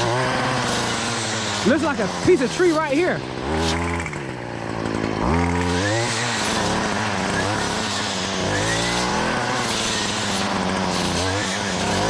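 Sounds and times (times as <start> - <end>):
two-stroke power tool engine revving: 0.0 - 12.0.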